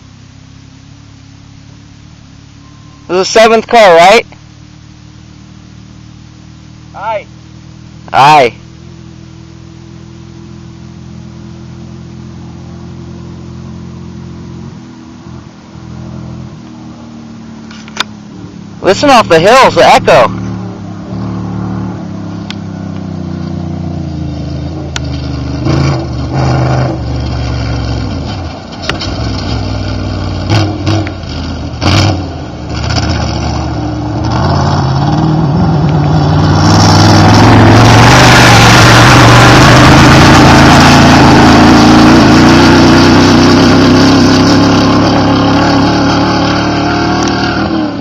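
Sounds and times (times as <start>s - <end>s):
rush of tyres and dirt: 0.0s - 48.0s
race car engine revving: 3.0s - 48.0s.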